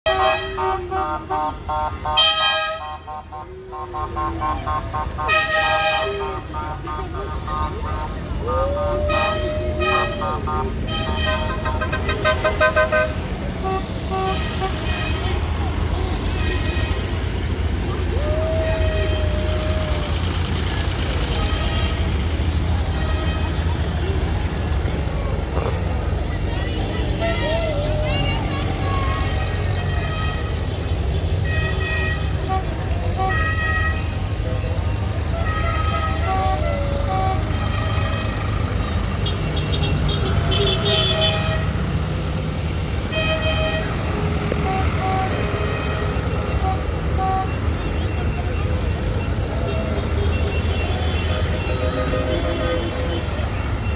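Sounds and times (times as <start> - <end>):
vehicle horns tooting: 0.0 - 53.9
tractor engine rumbling: 0.1 - 53.9.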